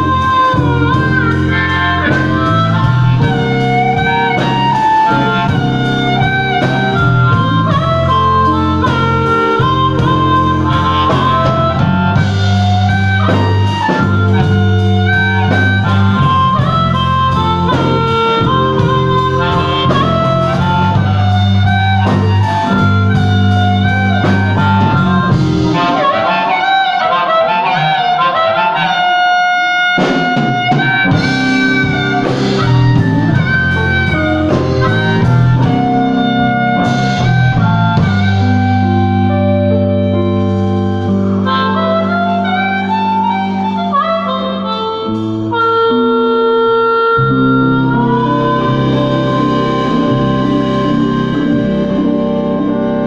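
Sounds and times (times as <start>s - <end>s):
amplified harmonica solo: 0.0s - 53.0s
bass guitar: 0.0s - 53.0s
drums: 0.0s - 53.0s.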